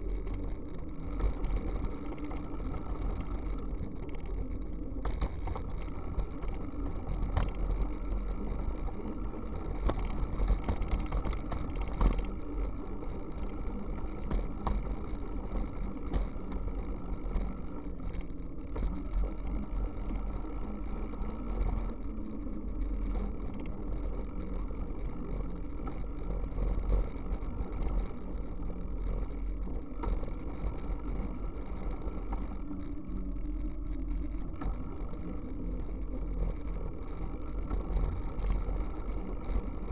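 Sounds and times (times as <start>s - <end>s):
tyre noise on asphalt: 0.0s - 39.9s.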